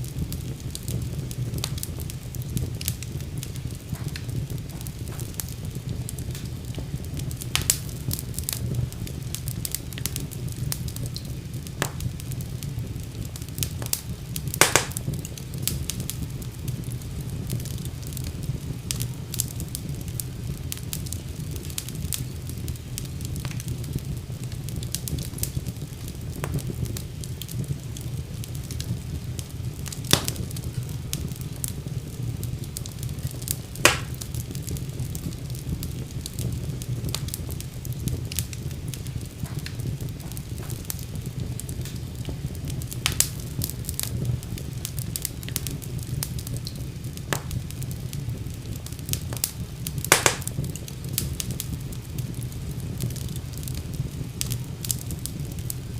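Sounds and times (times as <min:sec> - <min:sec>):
fire popping: 0:00.0 - 0:55.9
wood fire crackling: 0:00.0 - 0:55.9.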